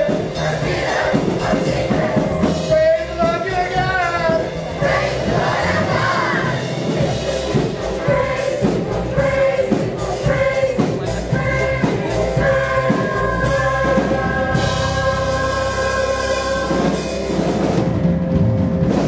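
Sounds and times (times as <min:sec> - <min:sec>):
choir singing: 0:00.0 - 0:02.6, 0:04.3 - 0:17.5
band with steady beat: 0:00.0 - 0:19.0.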